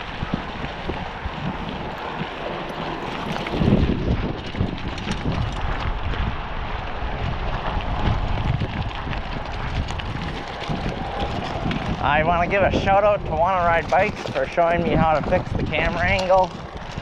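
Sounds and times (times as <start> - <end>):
bike tires rolling: 0.0 - 17.0
wind buffeting microphone: 0.0 - 17.0.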